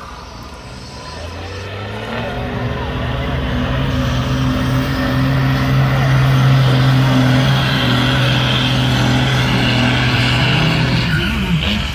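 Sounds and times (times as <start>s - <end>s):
truck engine revving high: 0.0s - 11.9s.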